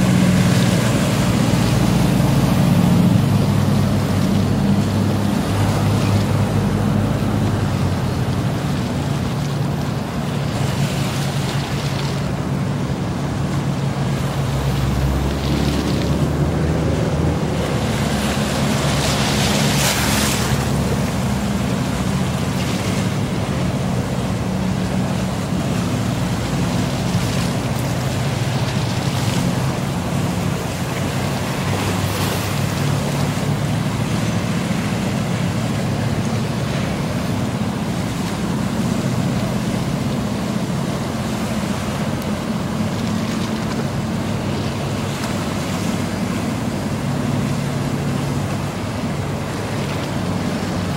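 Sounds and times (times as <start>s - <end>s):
boat engine drone: 0.0s - 50.9s
bow wake splashing: 0.0s - 50.9s.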